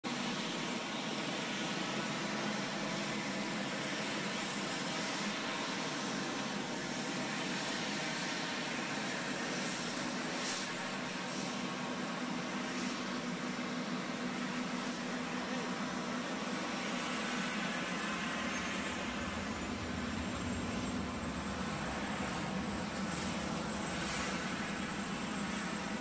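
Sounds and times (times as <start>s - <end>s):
jet engines running: 0.1s - 26.0s.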